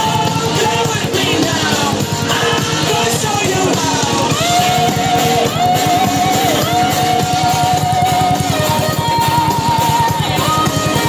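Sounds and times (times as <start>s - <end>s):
long held melody line: 0.0s - 11.0s
rock music fast beat: 0.0s - 11.0s.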